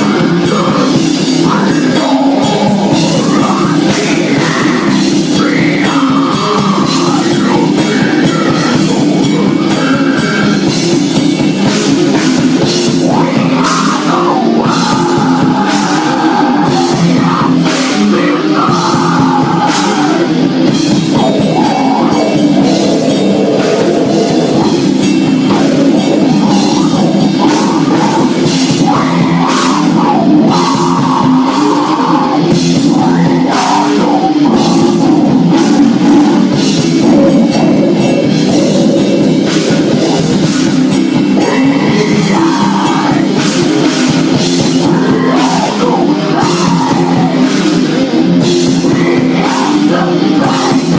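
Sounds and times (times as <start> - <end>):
heavy rock band playing: 0.0 - 50.9.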